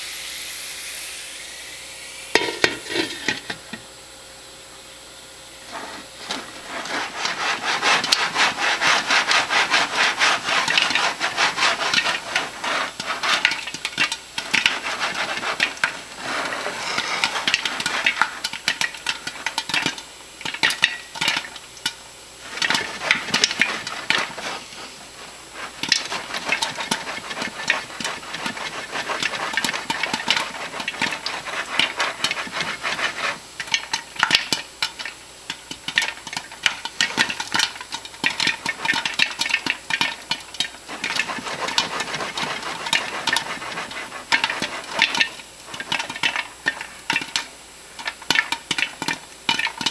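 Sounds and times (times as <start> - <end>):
popcorn popping in a pan: 2.3 - 4.0, 5.6 - 49.9.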